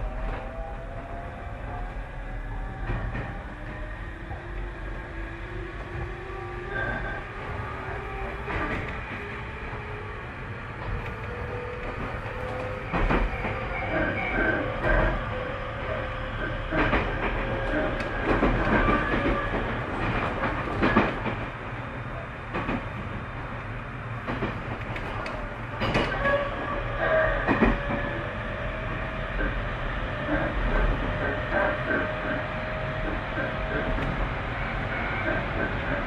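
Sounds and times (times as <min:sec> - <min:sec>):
train interior rumble: 0:00.0 - 0:36.0.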